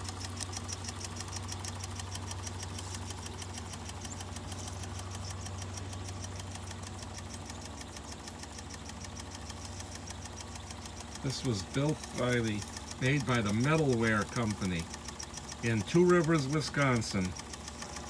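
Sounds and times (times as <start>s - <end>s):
toy steam engine strokes: 0.0s - 18.0s.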